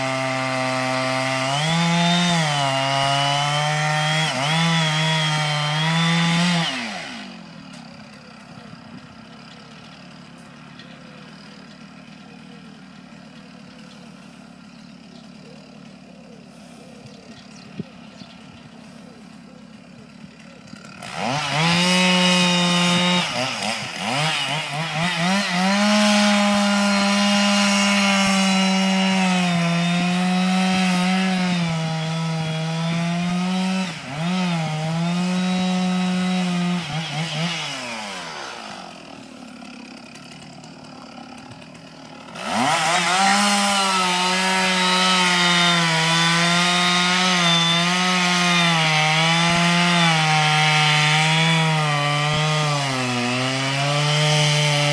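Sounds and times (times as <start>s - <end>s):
chainsaw cutting wood: 0.0s - 54.9s
chainsaw idling: 0.0s - 54.9s.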